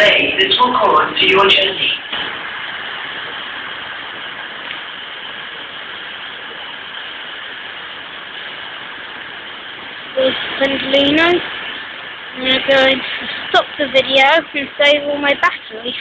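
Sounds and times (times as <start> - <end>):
train engines idling: 0.0 - 16.0.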